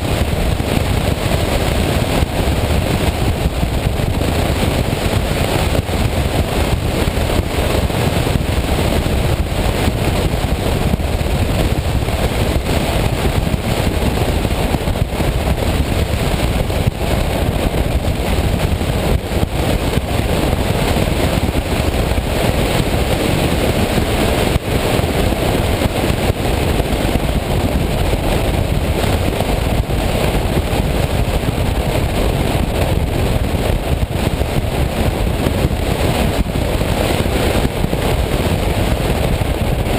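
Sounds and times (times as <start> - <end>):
wind rushing over camera: 0.0 - 39.9.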